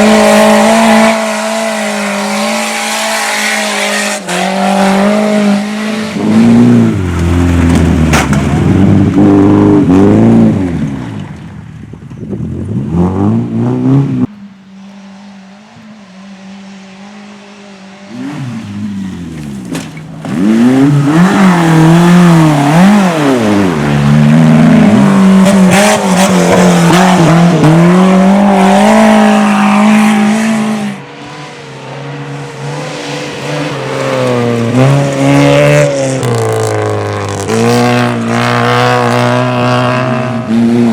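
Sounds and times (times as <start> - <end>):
rally car engine revving: 0.0 - 11.5, 12.3 - 40.9.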